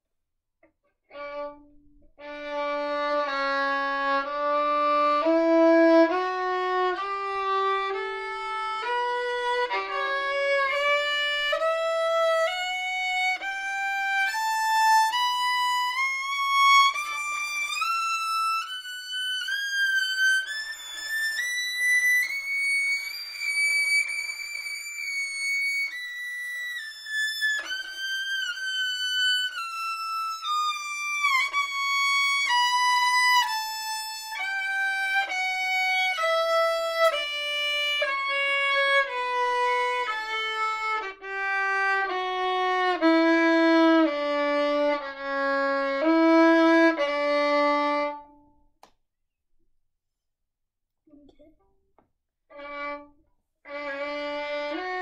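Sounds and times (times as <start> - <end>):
solo violin bowing a scale: 1.1 - 48.6, 52.5 - 55.0.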